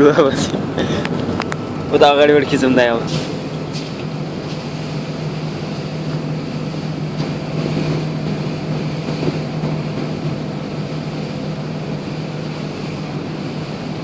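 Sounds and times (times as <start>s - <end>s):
ferry engine humming: 0.0s - 14.0s.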